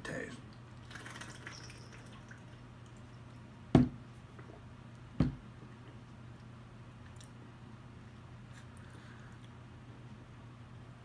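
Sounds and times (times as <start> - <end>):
faint low steady hum: 0.0 - 11.0.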